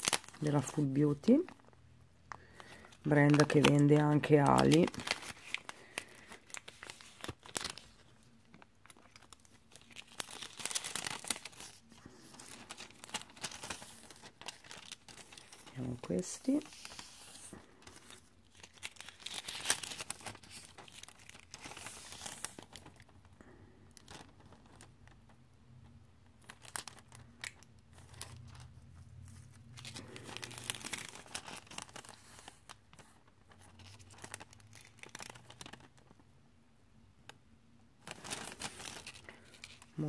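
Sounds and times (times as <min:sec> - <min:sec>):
foil sheets crinkling: 0:00.0 - 0:01.5, 0:02.3 - 0:25.3, 0:26.4 - 0:28.7, 0:29.3 - 0:36.2, 0:38.0 - 0:40.0.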